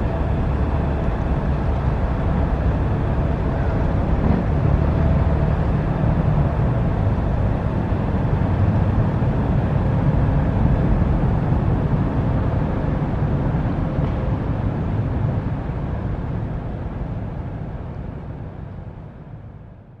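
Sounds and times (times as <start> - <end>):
ferry engine low rumble: 0.0 - 20.0.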